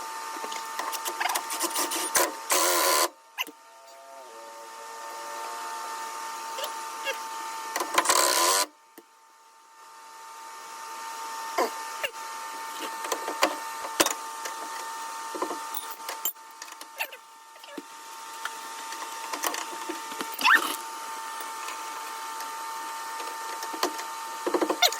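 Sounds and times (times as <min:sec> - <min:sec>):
high-pitched electrical hum: 0:00.0 - 0:24.9.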